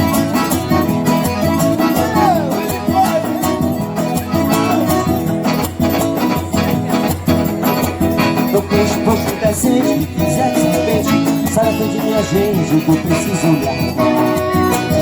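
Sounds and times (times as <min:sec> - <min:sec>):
band playing instrumental music: 0:00.0 - 0:15.0
percussion beat: 0:00.0 - 0:15.0
sliding melody line: 0:00.0 - 0:15.0.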